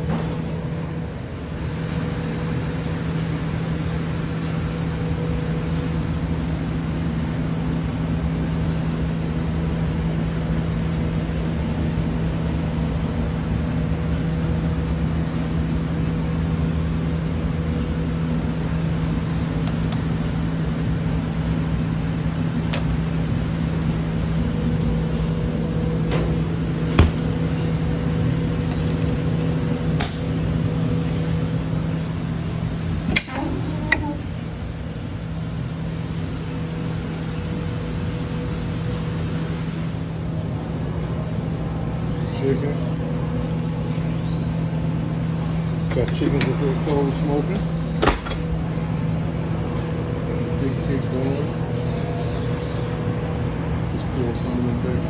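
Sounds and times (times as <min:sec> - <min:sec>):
electric fan motor humming: 0:00.0 - 0:55.0.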